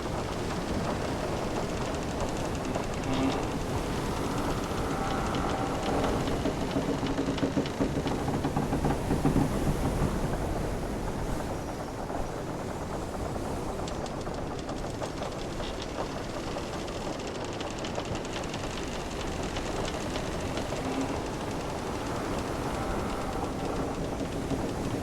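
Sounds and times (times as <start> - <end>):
ocean waves: 0.0 - 25.0
ship timbers creaking: 0.0 - 25.0.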